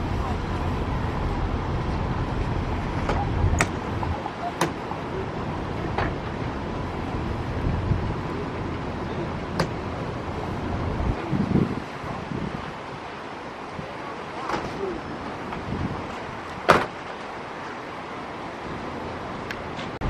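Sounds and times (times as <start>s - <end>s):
yacht engines rumbling: 0.0s - 20.0s.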